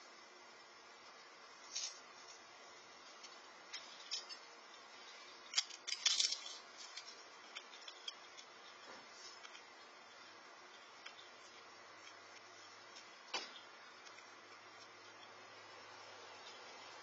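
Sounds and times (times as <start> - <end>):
faint steady hiss: 0.0 - 17.0
light clicks and crackles: 1.0 - 15.4.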